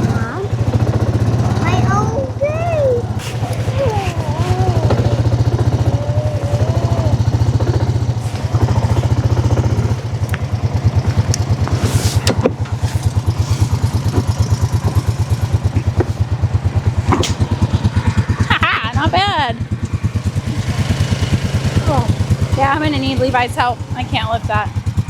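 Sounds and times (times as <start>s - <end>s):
atv engine throbbing: 0.0s - 25.0s.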